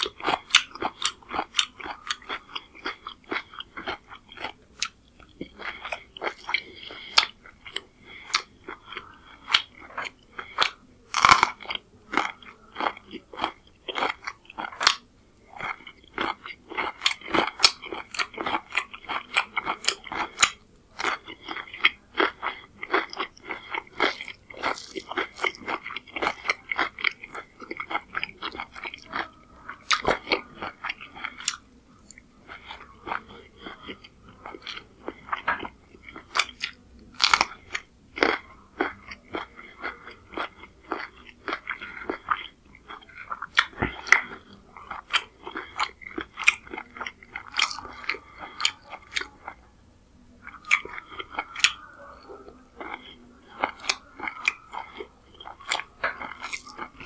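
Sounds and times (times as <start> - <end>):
chewing and crunching food: 0.0 - 57.0.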